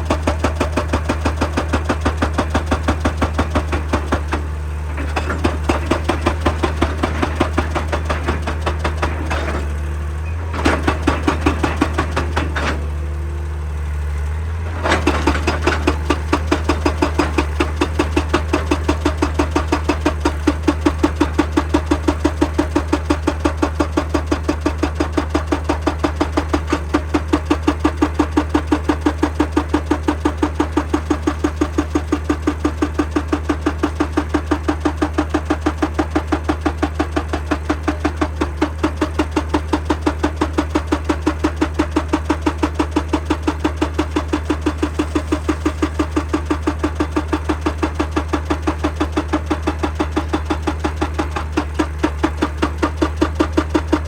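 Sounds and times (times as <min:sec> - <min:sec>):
hydraulic rock breaker hammering: 0:00.0 - 0:13.5, 0:14.6 - 0:54.0
diesel engine hum: 0:00.0 - 0:54.0.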